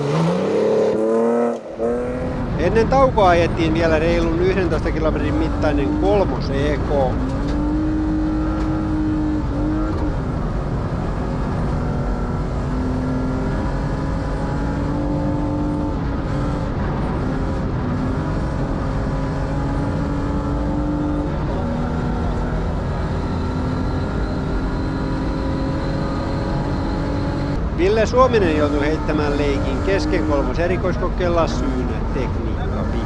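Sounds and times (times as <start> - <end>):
car engine at high revs: 0.0 - 33.0
gravel and road noise: 0.0 - 33.0.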